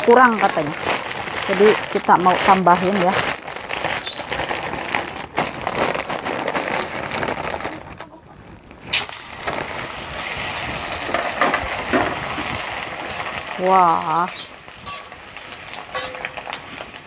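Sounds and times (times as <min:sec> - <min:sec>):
crackers sizzling in hot oil: 0:00.0 - 0:05.4, 0:08.6 - 0:17.0
plastic bag crinkling: 0:00.0 - 0:17.0.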